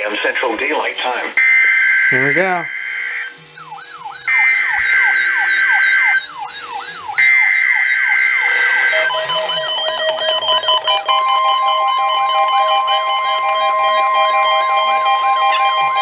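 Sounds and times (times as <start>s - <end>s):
rising siren-like alarm sweep: 1.4s - 16.0s
steady alarm tones: 1.4s - 16.0s
two-tone data bursts: 1.4s - 16.0s.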